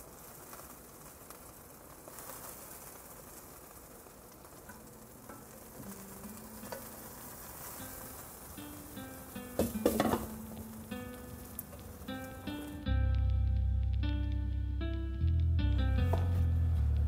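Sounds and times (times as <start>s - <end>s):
chicken sizzling in skillet: 0.0s - 17.0s.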